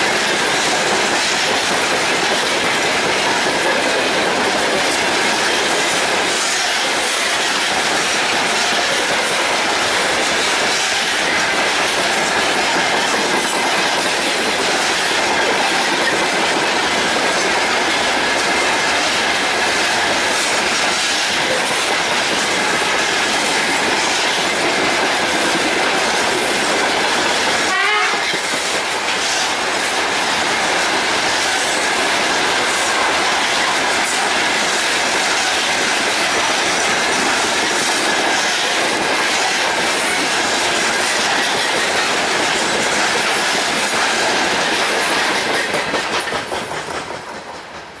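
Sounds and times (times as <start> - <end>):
freight train wheels clattering: 0.0 - 48.0.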